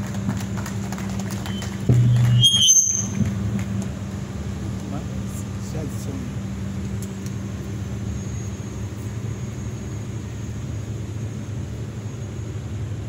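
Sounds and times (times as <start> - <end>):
low rumble: 0.0 - 12.8.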